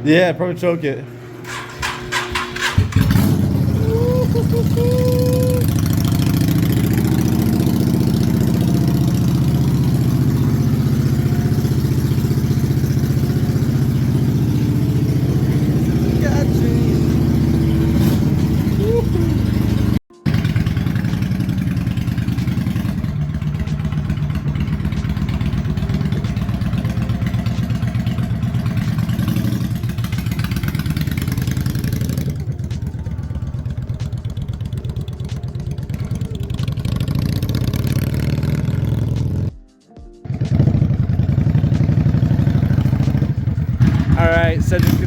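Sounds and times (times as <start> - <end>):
motorcycle engine idling: 1.1 - 39.5, 40.3 - 45.0.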